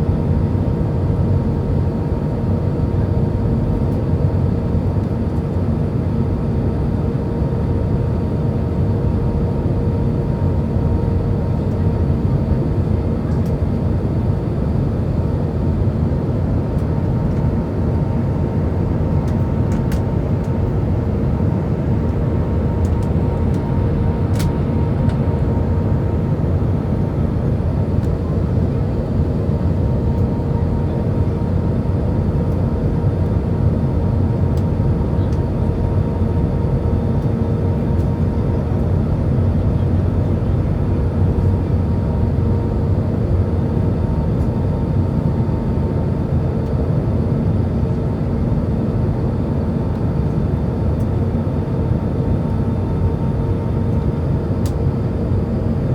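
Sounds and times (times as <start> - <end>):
airplane cabin engine rush: 0.0 - 55.9.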